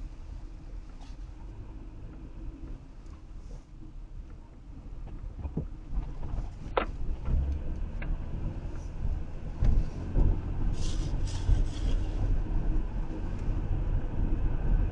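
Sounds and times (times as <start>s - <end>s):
road and engine rumble: 0.0s - 14.9s.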